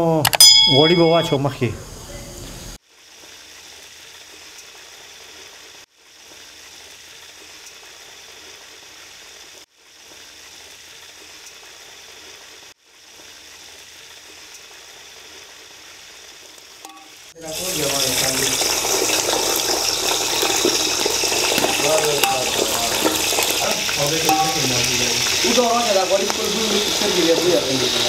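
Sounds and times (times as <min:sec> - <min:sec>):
ghee sizzling in a pot: 0:02.6 - 0:28.0.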